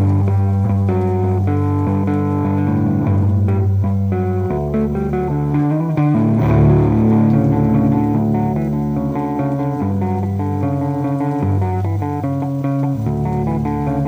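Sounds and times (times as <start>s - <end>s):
guitar chords and notes: 0.0s - 14.0s
low bass notes: 0.0s - 14.0s.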